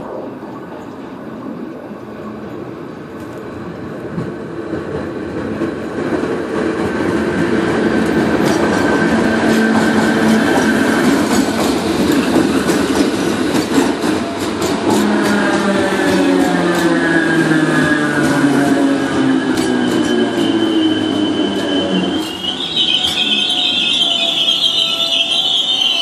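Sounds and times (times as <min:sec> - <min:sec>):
train whine: 0:00.0 - 0:26.0
electric train wheels clacking: 0:03.2 - 0:26.0.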